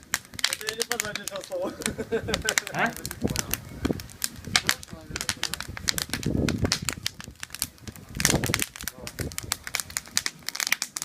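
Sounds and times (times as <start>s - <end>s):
campfire crackling and popping: 0.0s - 11.0s
wind rumbling on microphone: 0.0s - 11.0s.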